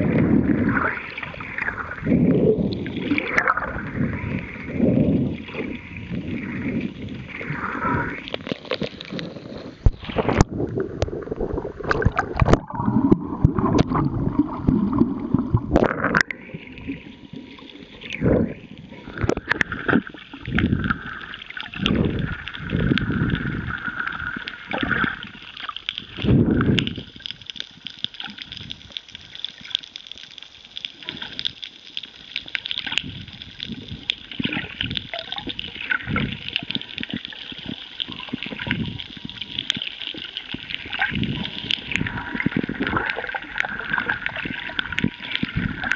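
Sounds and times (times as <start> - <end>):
underwater gurgling bubbles: 0.0 - 45.9.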